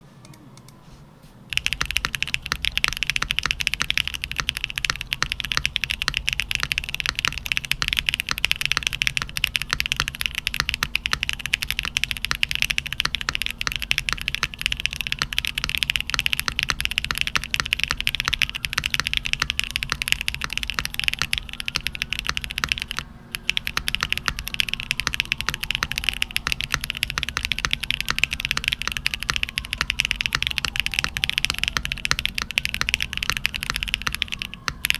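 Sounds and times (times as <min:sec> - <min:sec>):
fast typing on mechanical keyboard: 0:01.5 - 0:34.9.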